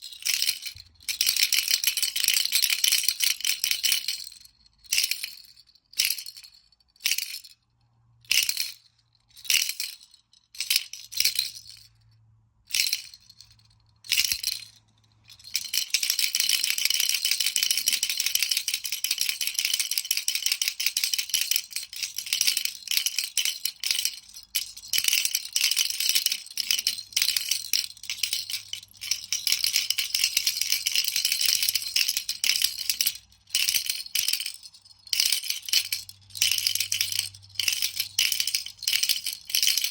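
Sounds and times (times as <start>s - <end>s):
baby rattle shaking: 0.0s - 7.6s, 8.2s - 39.9s.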